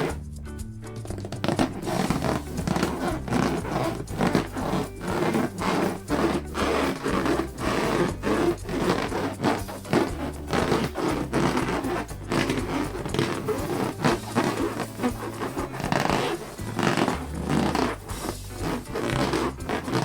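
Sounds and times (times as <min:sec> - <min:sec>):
balloons squeezed and rubbed: 0:00.0 - 0:00.4, 0:01.0 - 0:20.0
quiet background music: 0:00.0 - 0:20.0.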